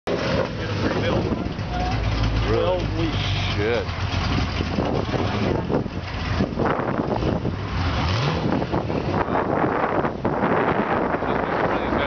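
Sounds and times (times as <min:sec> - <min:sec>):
car engine idling deep: 0:00.1 - 0:12.0
engine revving: 0:00.1 - 0:12.0.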